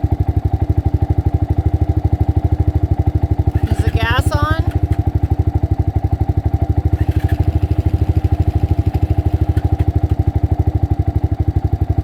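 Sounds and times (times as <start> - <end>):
single-cylinder engine idling: 0.0 - 12.0.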